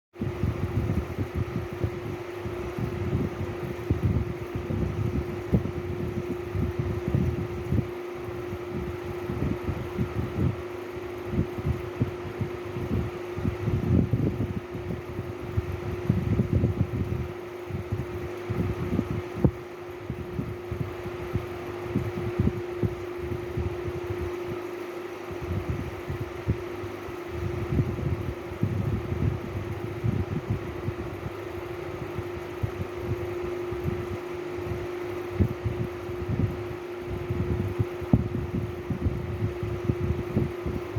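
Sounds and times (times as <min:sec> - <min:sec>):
steady mechanical hum: 0:00.1 - 0:40.9.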